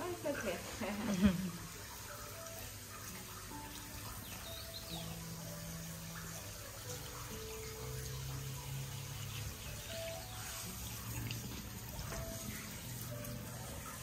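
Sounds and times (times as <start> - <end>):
faint soft music: 0.0 - 14.0
water splashing into stone basin: 0.6 - 14.0.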